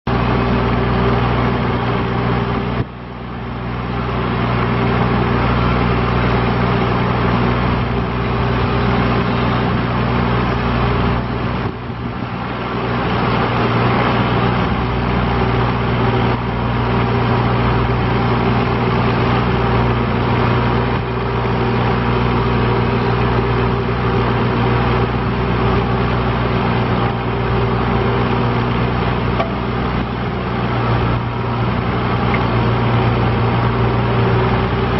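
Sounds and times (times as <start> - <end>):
loader engine running: 0.0 - 34.9.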